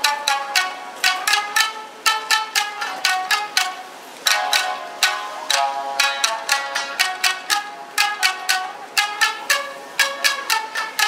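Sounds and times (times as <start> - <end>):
shamisen ensemble playing: 0.0 - 11.0.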